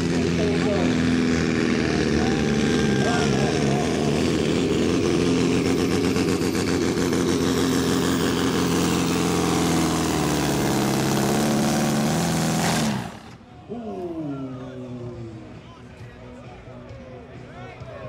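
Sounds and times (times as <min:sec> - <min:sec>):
tractor diesel engine droning: 0:00.0 - 0:15.7.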